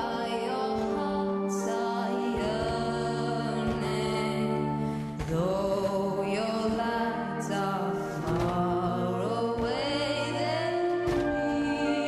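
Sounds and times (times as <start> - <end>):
music with long held notes: 0.0 - 12.0.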